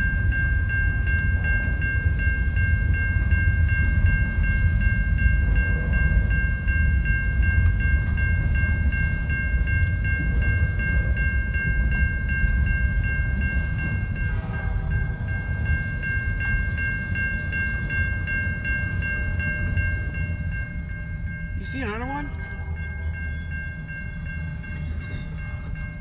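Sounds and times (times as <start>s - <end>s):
freight train rumbling past: 0.0s - 26.0s
railroad crossing bell ringing: 0.0s - 26.0s.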